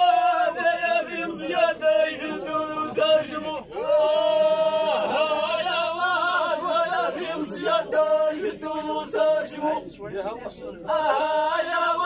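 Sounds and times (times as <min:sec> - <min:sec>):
man singing unaccompanied: 0:00.0 - 0:03.7, 0:04.9 - 0:09.9, 0:10.8 - 0:12.0.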